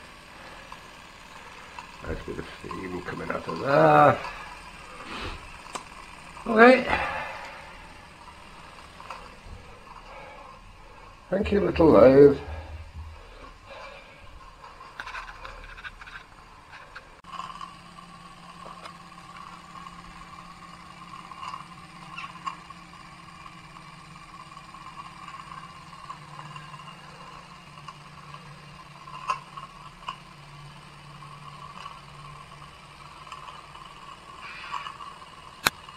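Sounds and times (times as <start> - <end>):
model steam engine running: 0.0 - 35.9.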